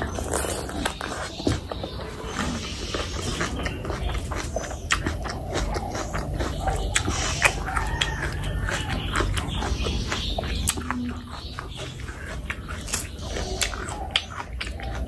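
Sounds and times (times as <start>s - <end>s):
wet chewing with mouth smacks: 0.0s - 15.0s.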